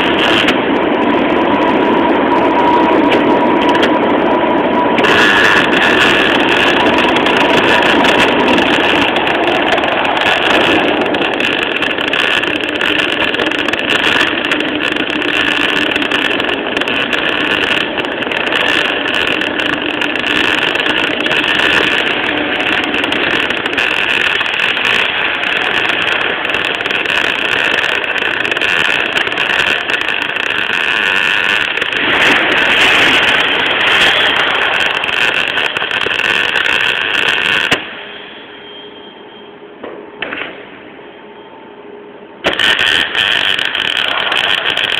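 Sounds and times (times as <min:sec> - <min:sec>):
welding arc crackling: 0:00.0 - 0:38.6, 0:42.4 - 0:44.9.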